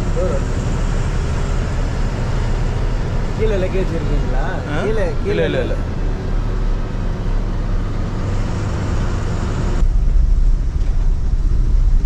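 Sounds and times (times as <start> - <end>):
road noise hiss: 0.0 - 12.0
vehicle engine rumble: 0.0 - 12.0.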